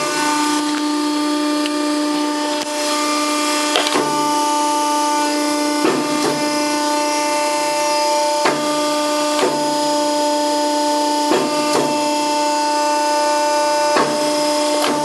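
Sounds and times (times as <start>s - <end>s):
hydraulic pump motor hum: 0.0s - 15.0s.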